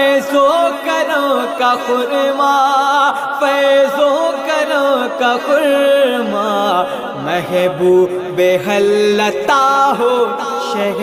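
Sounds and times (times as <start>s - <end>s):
devotional song with ornamented singing: 0.0s - 11.0s.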